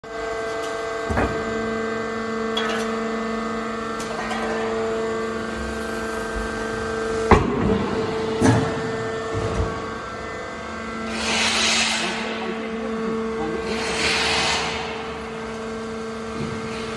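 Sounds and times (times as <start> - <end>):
hydraulic pump humming whine: 0.0 - 16.9.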